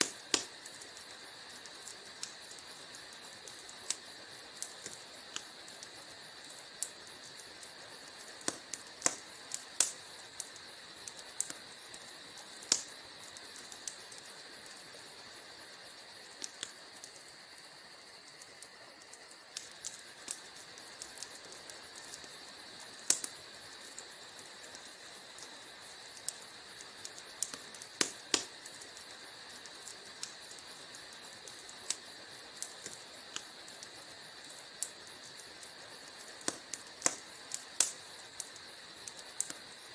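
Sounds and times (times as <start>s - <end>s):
fire hissing: 0.0s - 39.9s
loud fire snaps: 0.0s - 39.9s
wood fire crackling and popping: 0.0s - 39.9s.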